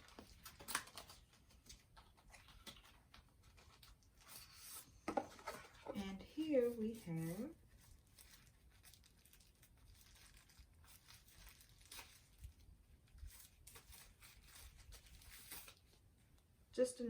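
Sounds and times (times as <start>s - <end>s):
packaging rustling and crinkling: 0.0s - 16.4s.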